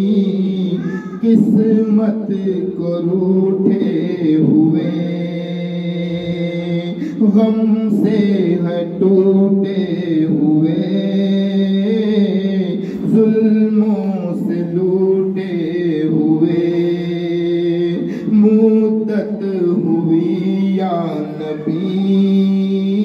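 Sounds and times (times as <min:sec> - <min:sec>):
man singing into a microphone: 0:00.0 - 0:23.0.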